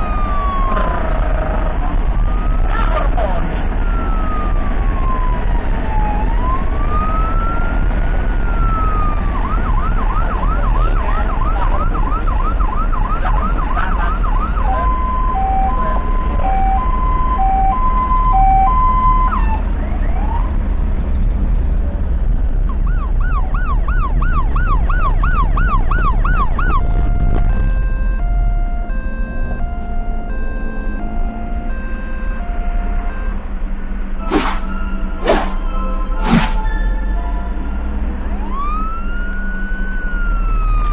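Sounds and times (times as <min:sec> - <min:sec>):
ambulance siren: 0:00.0 - 0:20.8, 0:22.7 - 0:33.4, 0:34.2 - 0:40.9
engine and road rumble: 0:00.0 - 0:40.9.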